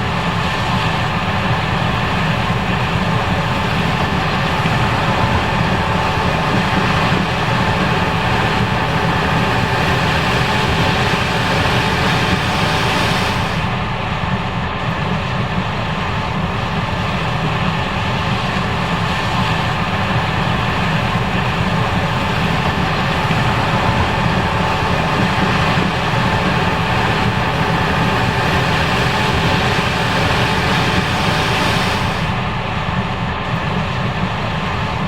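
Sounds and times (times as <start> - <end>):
combine harvester engine drone: 0.0 - 35.0.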